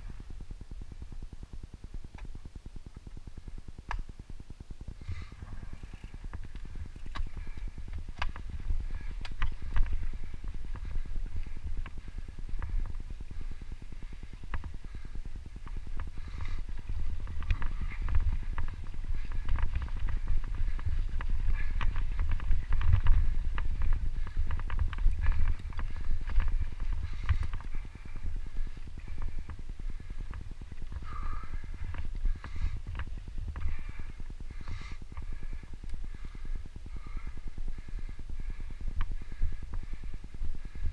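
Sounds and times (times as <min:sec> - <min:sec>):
wind rumble: 0:00.0 - 0:40.9
bike tyres crunching over dirt: 0:04.9 - 0:40.9
bike chain and frame rattling: 0:05.3 - 0:40.9.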